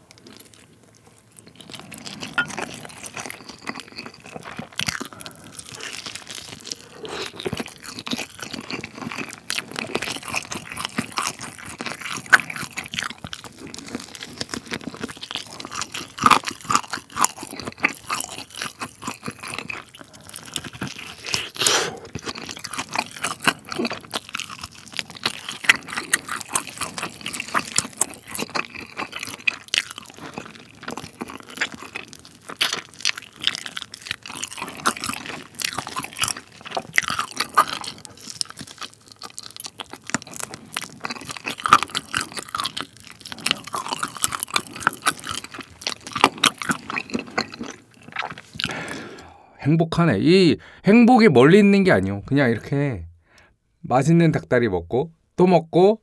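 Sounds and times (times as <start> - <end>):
bite clicks and crunches: 0.0 - 49.3
wet chewing: 0.0 - 49.4.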